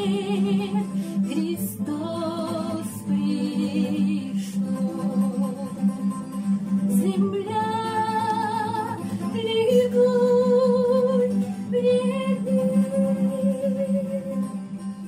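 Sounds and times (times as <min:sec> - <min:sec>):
woman singing: 0:00.0 - 0:14.8
acoustic guitar: 0:00.0 - 0:15.0.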